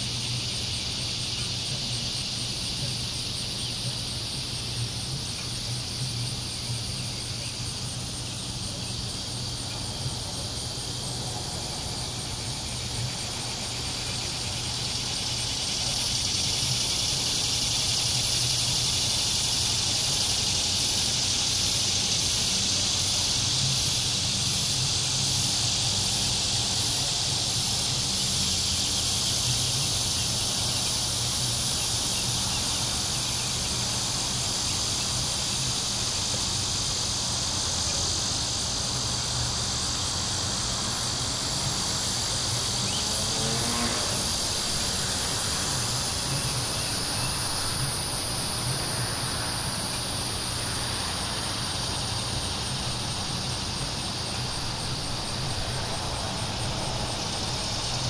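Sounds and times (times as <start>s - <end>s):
cicadas and crickets chirring: 0.0s - 58.0s
distant traffic rumble: 0.0s - 58.0s.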